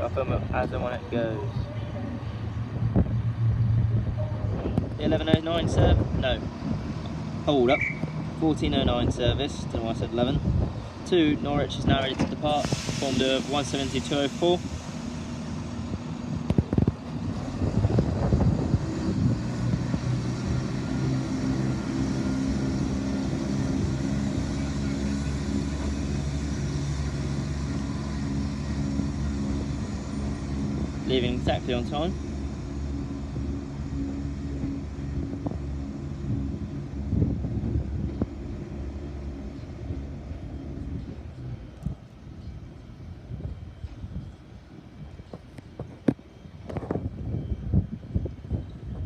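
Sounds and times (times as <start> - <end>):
wind buffeting microphone: 0.0 - 7.4, 8.4 - 49.0
train diesel engines droning: 0.0 - 49.0.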